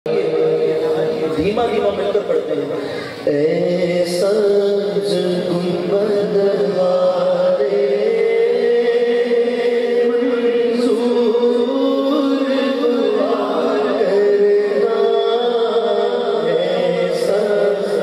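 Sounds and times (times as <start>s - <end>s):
men singing a drone: 3.2s - 18.0s.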